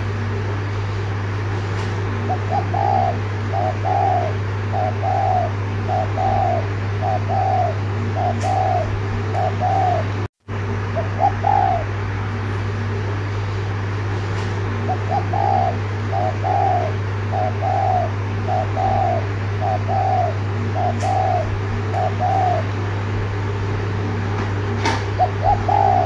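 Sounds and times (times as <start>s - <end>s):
dove cooing: 0.0s - 10.2s, 10.8s - 13.2s, 14.6s - 23.9s, 24.6s - 26.0s
steady low hum: 0.0s - 26.0s.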